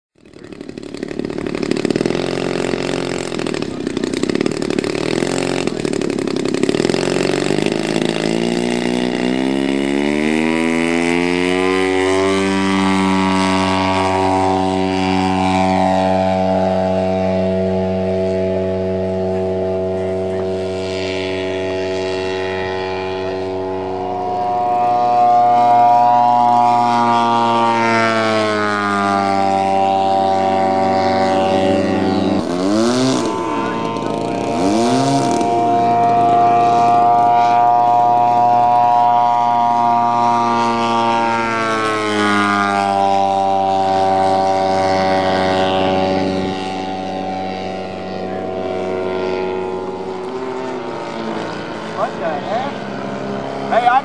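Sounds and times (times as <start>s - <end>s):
model airplane engine: 0.1s - 54.0s.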